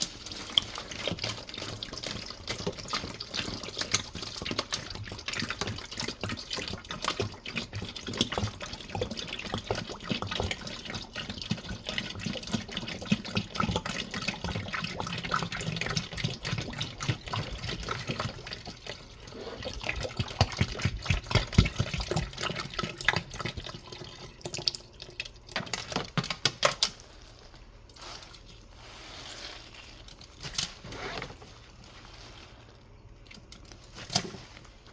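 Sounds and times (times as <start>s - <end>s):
soapy water splashing: 0.0s - 34.9s.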